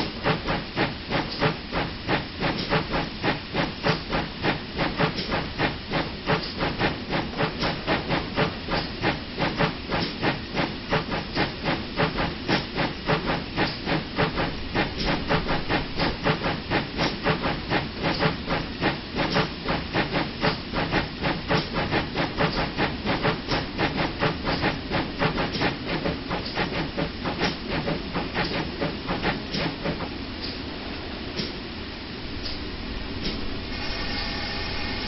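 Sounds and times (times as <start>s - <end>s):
steam hissing: 0.0s - 30.6s
steam locomotive exhaust chuffing: 0.0s - 30.6s.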